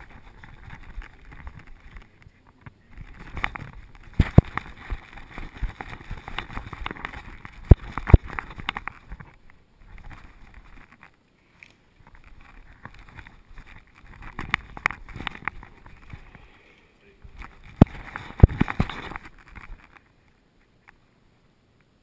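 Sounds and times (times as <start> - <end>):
camera rubbing and jostling: 0.0 - 20.2.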